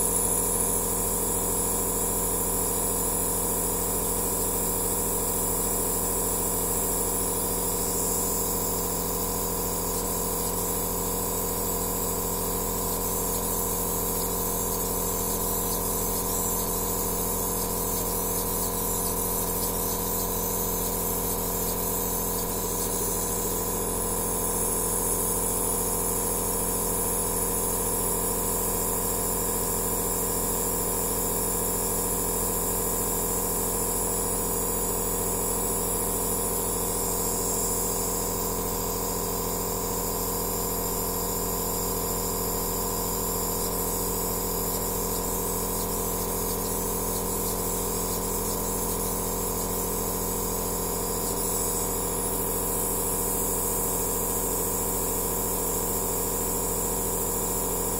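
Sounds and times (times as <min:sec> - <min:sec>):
nebulizer motor hum: 0:00.0 - 0:32.0, 0:32.6 - 0:56.1.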